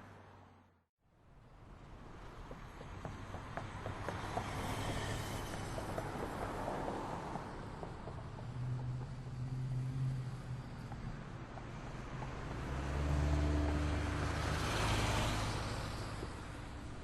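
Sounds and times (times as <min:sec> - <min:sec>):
vehicle tyre noise passing: 0:02.4 - 0:17.0.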